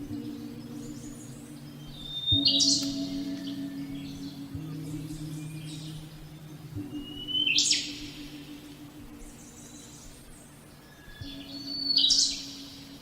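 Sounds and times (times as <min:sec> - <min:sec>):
low synth pad: 0:00.0 - 0:13.0.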